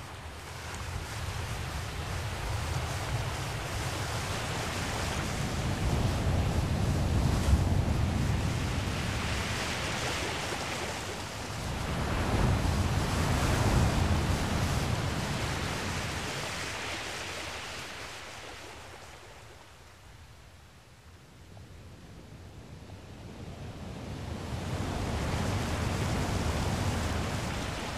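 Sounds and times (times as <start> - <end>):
sea waves washing in: 0.0 - 20.4, 23.3 - 27.9
wind rumbling on microphone: 0.0 - 27.9.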